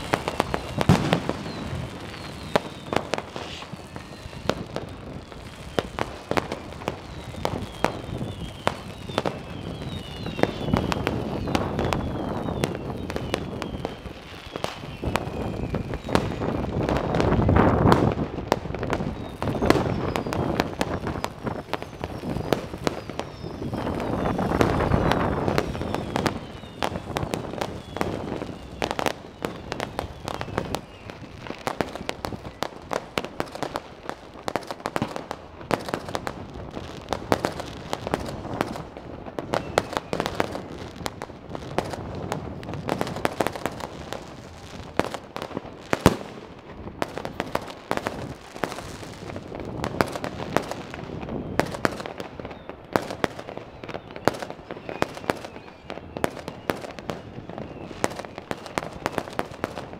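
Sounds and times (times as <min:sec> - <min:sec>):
falling firework whistles: 0:00.0 - 0:59.9
fireworks and firecrackers bangs: 0:00.0 - 0:59.9.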